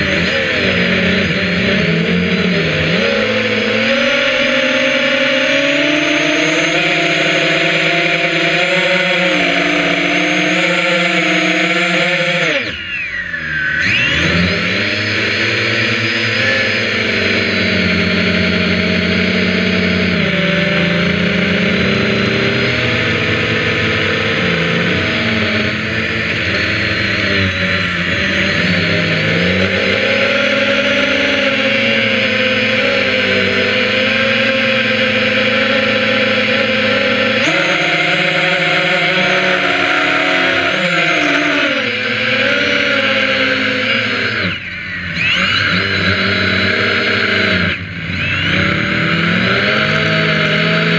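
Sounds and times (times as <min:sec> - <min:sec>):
drone propellers whining: 0:00.0 - 0:50.9.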